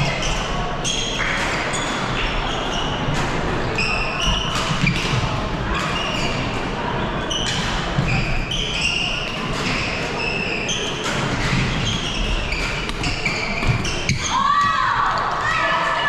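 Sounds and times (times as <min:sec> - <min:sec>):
shoes squeaking on court: 0:00.2 - 0:14.7.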